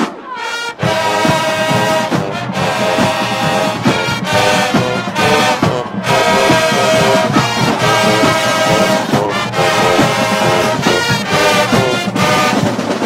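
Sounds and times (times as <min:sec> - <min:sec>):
brass chords: 0:00.0 - 0:13.0
drum hits: 0:00.8 - 0:13.0.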